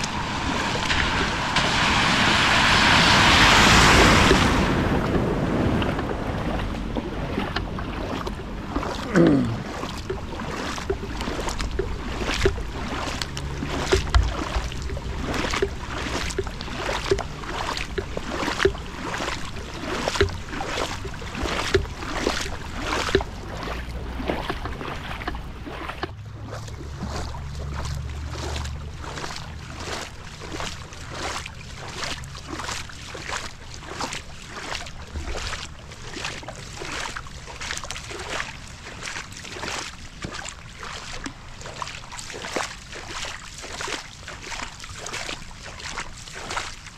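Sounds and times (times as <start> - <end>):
wind rumble on microphone: 0.0 - 42.1
floodwater splashing: 0.0 - 46.9.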